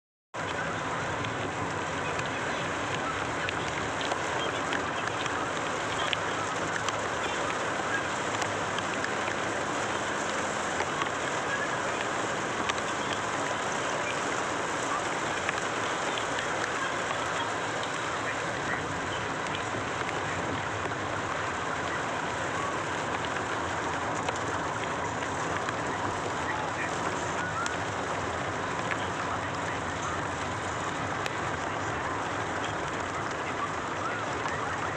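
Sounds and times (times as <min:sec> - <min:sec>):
raindrops ticking on surfaces: 0:00.4 - 0:34.9
steady rain hiss: 0:00.4 - 0:34.9.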